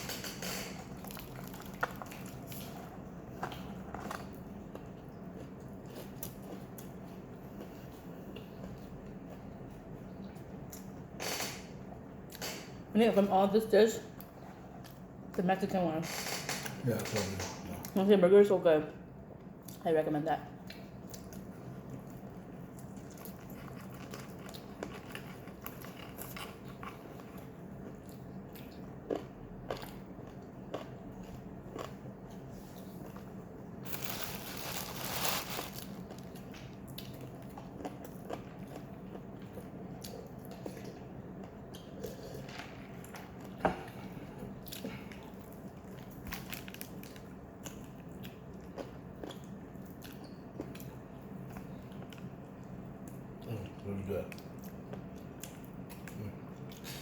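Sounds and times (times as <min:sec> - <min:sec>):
chewing crunchy food: 0:00.0 - 0:11.1, 0:20.6 - 0:57.0
steady low hum: 0:00.0 - 0:57.0.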